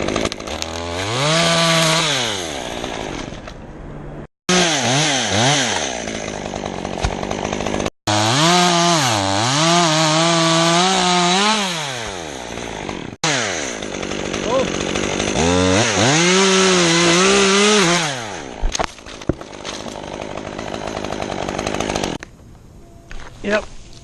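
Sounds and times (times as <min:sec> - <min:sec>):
chainsaw revving: 0:00.0 - 0:03.4, 0:04.5 - 0:18.6, 0:19.3 - 0:22.2.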